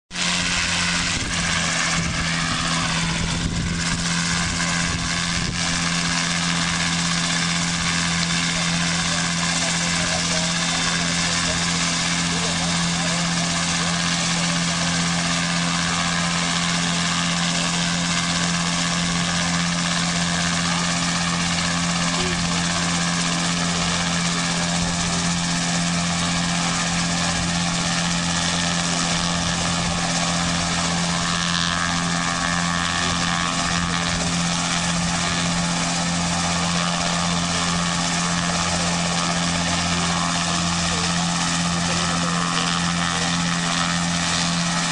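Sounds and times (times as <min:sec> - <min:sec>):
helicopter engine and rotor drone: 0:00.1 - 0:44.9.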